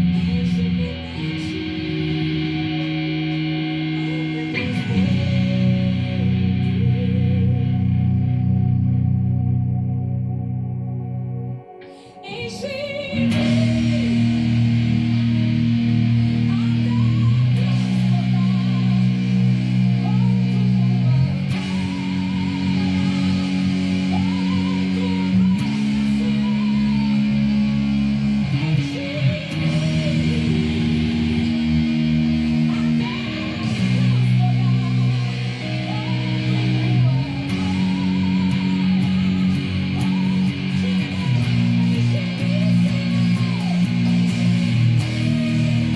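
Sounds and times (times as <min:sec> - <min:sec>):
bass and guitar chords: 0:00.0 - 0:45.9
wavering electric guitar melody: 0:00.0 - 0:45.9.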